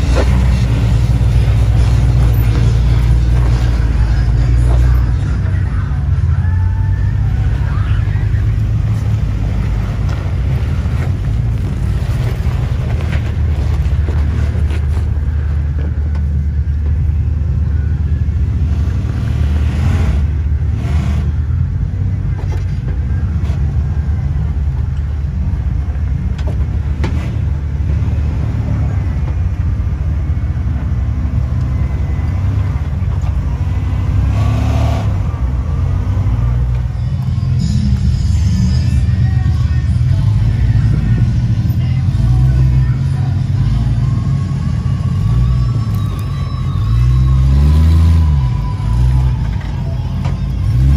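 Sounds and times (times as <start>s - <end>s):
truck engines running at low revs: 0.0s - 50.9s.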